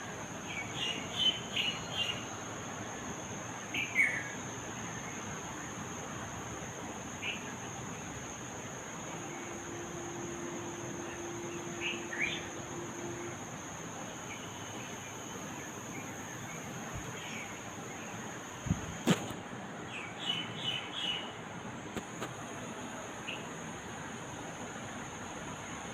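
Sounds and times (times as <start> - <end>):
steady background hiss: 0.0 - 25.9.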